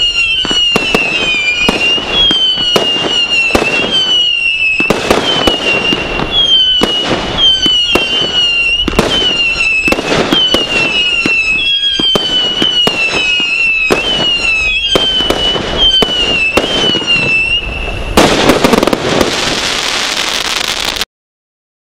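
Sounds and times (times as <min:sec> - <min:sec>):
high wavering whistle: 0:00.0 - 0:18.9
fireworks crackling: 0:00.0 - 0:21.1
roman candle shots: 0:00.0 - 0:21.1.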